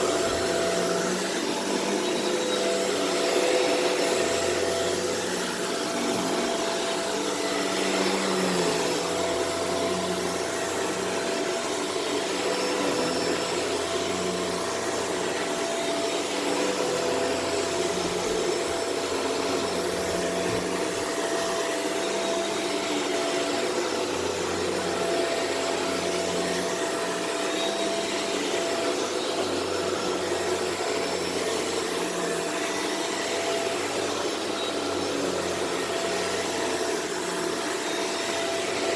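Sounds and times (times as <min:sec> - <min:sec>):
upright vacuum running over carpet: 0:00.0 - 0:38.9.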